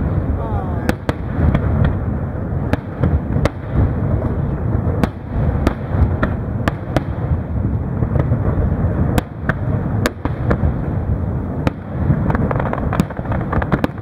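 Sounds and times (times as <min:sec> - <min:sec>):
rumble of firework booms: 0:00.0 - 0:14.0
sharp firework cracks: 0:00.0 - 0:14.0.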